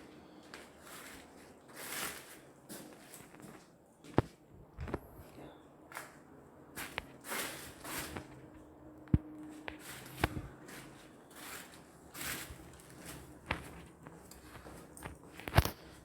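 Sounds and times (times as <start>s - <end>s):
footsteps and shuffling: 0.0s - 16.0s.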